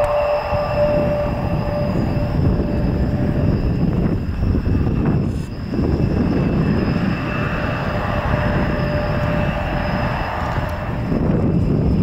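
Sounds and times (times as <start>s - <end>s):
high engine whine: 0.0s - 12.0s
jet engines running: 0.0s - 12.0s.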